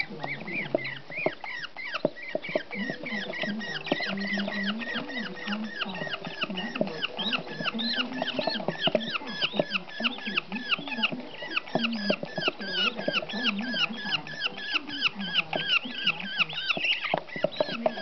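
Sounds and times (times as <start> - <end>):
budgerigar chicks chirping: 0.0 - 18.0.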